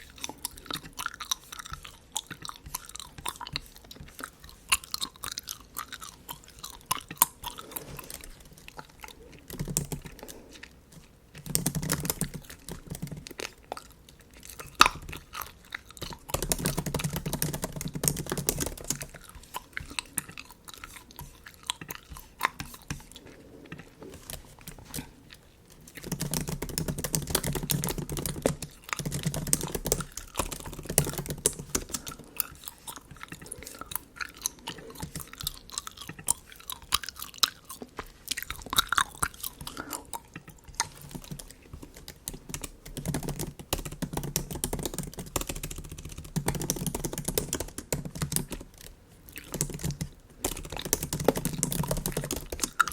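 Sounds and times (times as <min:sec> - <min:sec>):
gum chewing clicks and smacks: 0:00.0 - 0:52.9.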